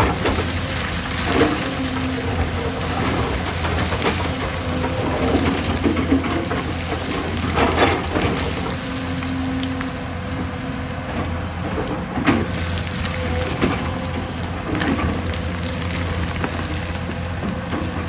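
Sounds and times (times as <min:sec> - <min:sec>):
rock and soil knocking and rattling: 0:00.0 - 0:10.0, 0:11.0 - 0:18.0
excavator diesel engine running: 0:00.0 - 0:18.0.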